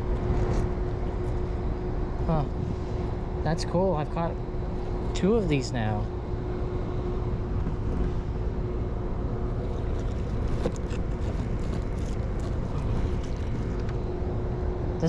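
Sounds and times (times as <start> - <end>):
mid-pitched hum: 0.0 - 15.0.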